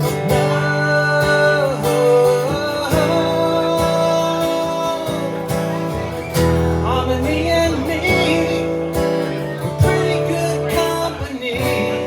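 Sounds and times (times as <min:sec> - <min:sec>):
acoustic guitar strumming: 0:00.0 - 0:12.0
person singing: 0:00.0 - 0:12.0.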